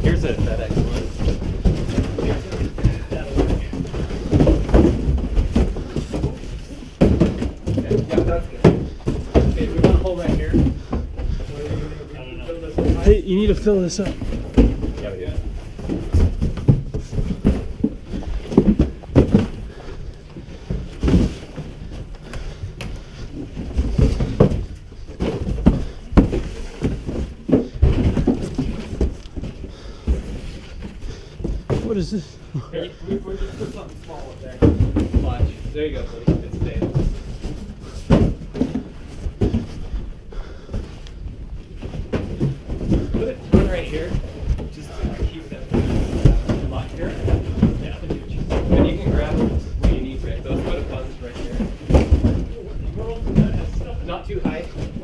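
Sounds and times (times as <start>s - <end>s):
cardboard boxes thudding and scraping: 0.0s - 11.9s, 12.6s - 55.0s.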